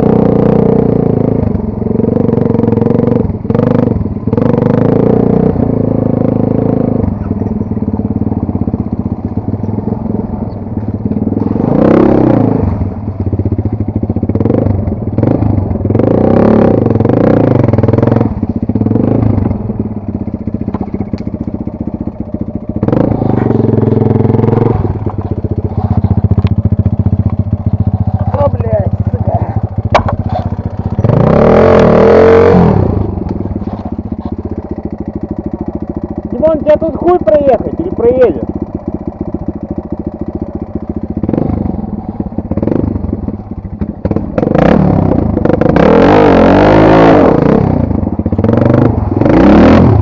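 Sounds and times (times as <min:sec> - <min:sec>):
off-road motorcycle engine revving: 0:00.0 - 0:50.0.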